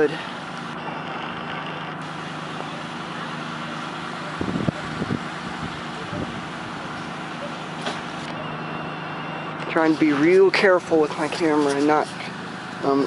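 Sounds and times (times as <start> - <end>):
heat pump fan whoosh: 0.0 - 13.0.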